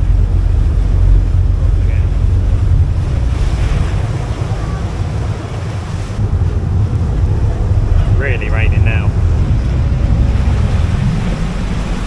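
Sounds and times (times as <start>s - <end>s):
boat wake rushing: 0.0s - 12.0s
wind buffeting microphone: 0.0s - 12.0s.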